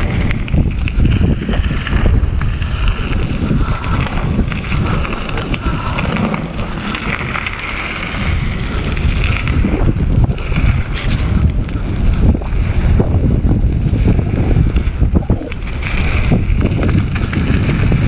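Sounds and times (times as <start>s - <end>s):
bike clicks and rattles: 0.0s - 18.0s
bike tyres rolling over gravel: 0.0s - 18.0s
wind on microphone: 0.0s - 18.0s.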